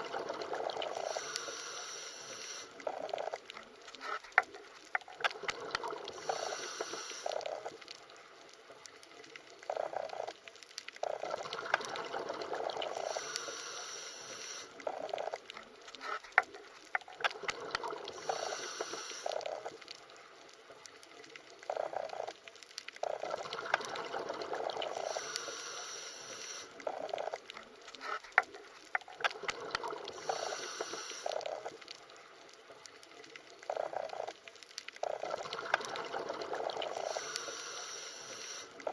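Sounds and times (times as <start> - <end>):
underwater gurgling and bubbling: 0.0 - 38.9.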